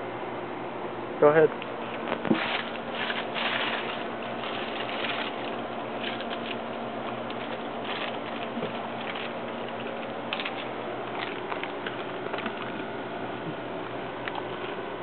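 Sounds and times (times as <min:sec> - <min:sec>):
steady background hum: 0:00.0 - 0:15.0
crisp crunches of chewing tacos: 0:01.9 - 0:14.9.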